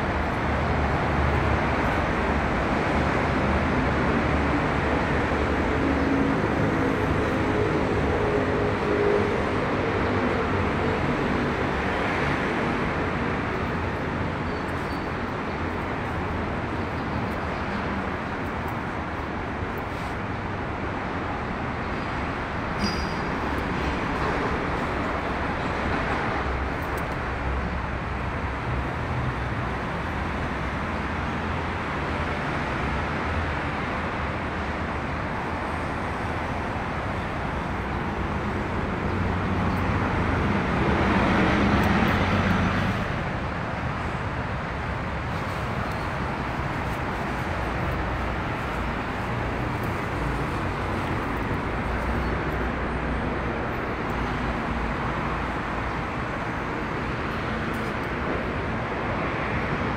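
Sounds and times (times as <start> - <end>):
road traffic rumble and hiss: 0.0 - 59.9.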